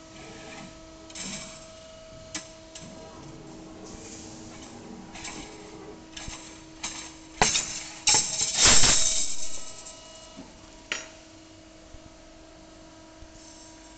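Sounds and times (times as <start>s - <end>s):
steady machine hum: 0.0s - 13.9s.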